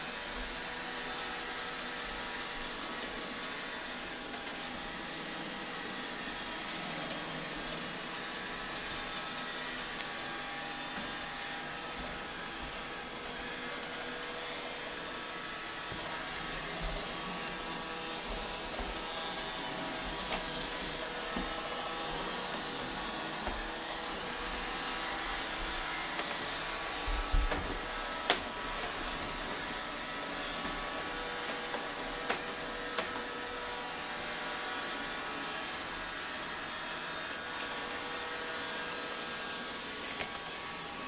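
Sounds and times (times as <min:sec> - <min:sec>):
robot vacuum whirring: 0:00.0 - 0:41.0.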